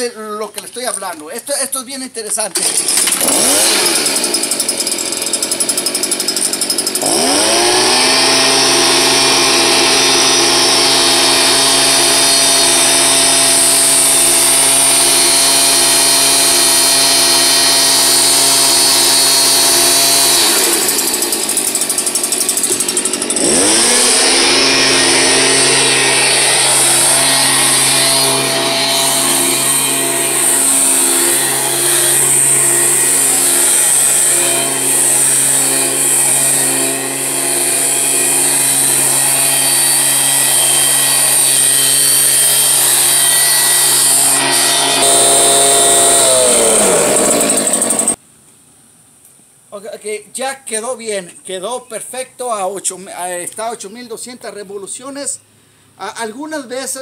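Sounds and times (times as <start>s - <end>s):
leaf blower engine revving: 0.0s - 48.2s.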